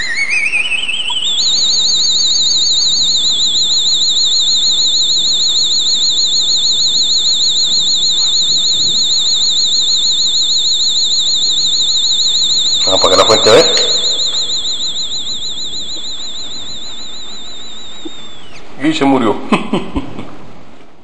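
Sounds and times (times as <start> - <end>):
electronic warbling alarm tone: 0.0 - 18.7.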